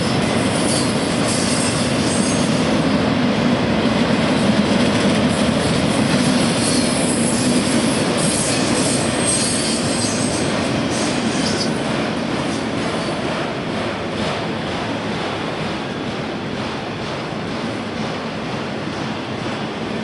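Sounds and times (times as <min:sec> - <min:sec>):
freight cars rumbling on rails: 0:00.0 - 0:20.0.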